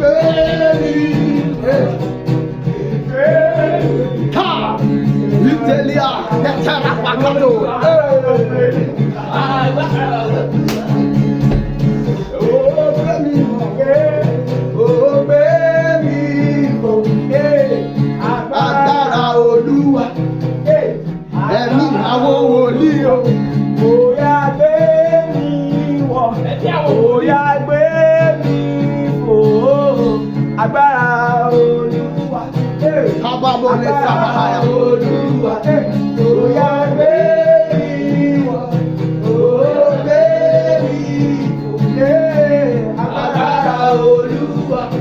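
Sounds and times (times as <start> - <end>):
instrumental backing: 0.0 - 45.0
person singing gospel song: 0.0 - 45.0.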